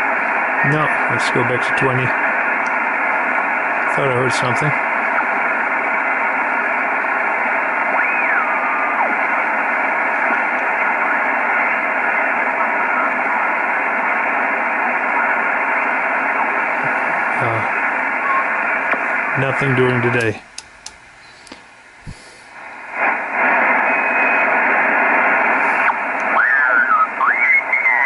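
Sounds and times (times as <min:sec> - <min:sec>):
radio band noise hiss: 0:00.0 - 0:28.0.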